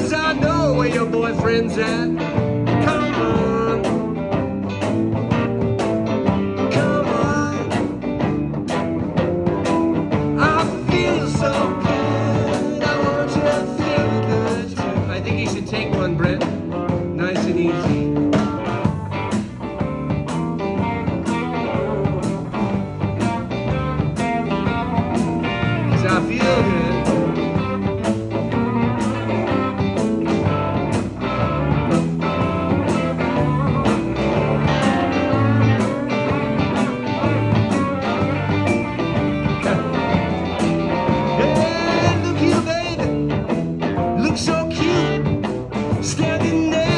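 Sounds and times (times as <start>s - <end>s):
live rhythm and blues band: 0.0s - 46.9s
steady drum beat: 0.0s - 46.9s.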